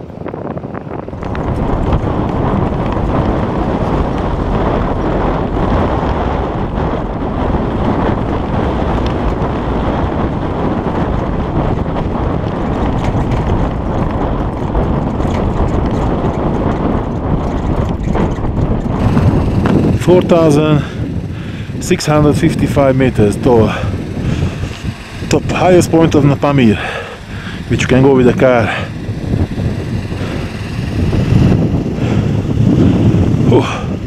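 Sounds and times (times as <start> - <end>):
tyres rumbling on gravel road: 0.0 - 34.0
wind noise: 0.0 - 34.0.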